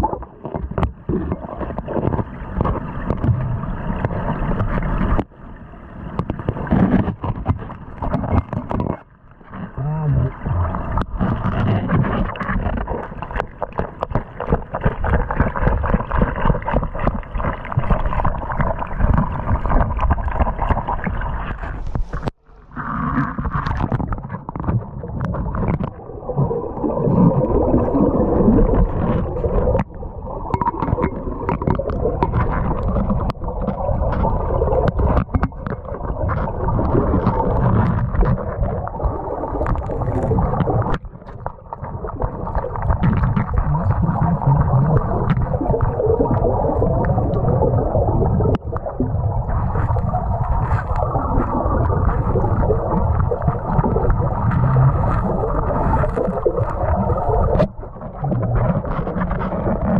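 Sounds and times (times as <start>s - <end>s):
underwater river current rushing: 0.0s - 59.9s.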